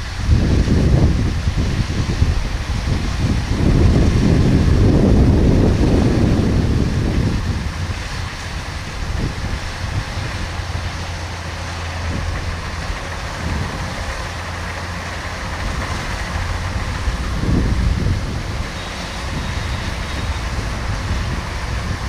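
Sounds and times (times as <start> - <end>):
combine harvester engine humming: 0.0 - 22.0.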